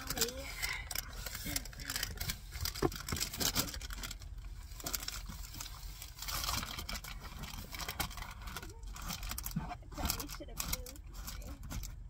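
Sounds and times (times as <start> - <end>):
cover material rustling and crinkling: 0.0 - 12.0.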